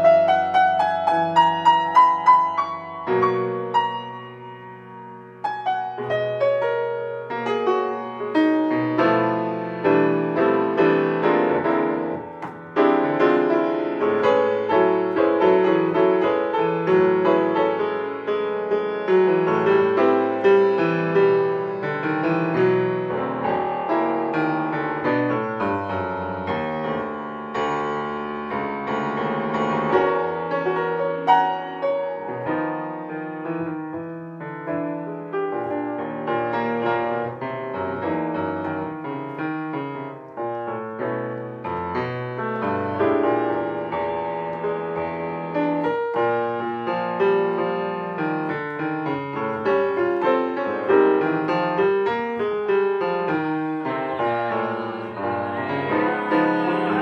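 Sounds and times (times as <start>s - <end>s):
solo jazz piano: 0.0s - 57.0s.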